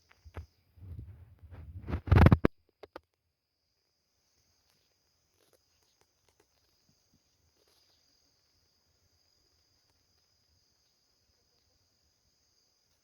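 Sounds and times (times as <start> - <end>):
crickets trilling: 2.0 - 13.0.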